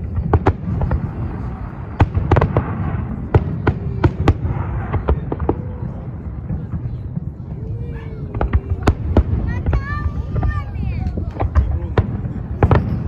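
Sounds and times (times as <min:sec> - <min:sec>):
fireworks bangs: 0:00.0 - 0:13.0
fireworks crackling: 0:00.0 - 0:13.0
low rumble: 0:00.0 - 0:13.0.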